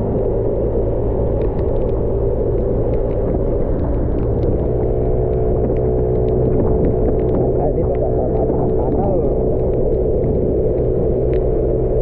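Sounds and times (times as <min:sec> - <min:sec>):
low road rumble: 0:00.0 - 0:12.0.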